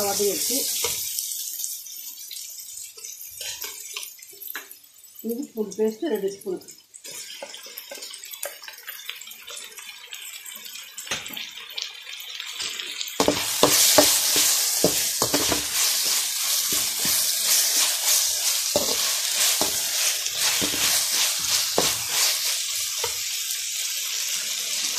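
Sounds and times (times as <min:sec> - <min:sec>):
onions sizzling in oil: 0:00.0 - 0:24.9.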